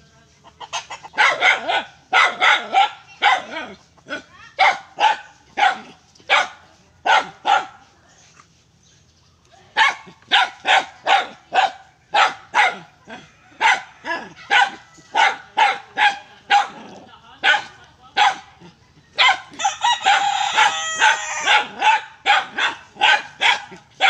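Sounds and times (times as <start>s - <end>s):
dog barking: 1.0s - 7.9s, 9.7s - 24.0s.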